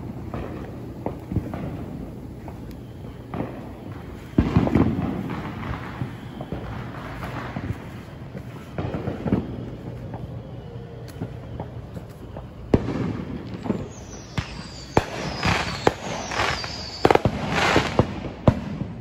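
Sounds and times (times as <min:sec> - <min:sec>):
firework whistle falling in pitch: 0:00.0 - 0:19.0
fireworks bangs and crackling: 0:00.0 - 0:19.0.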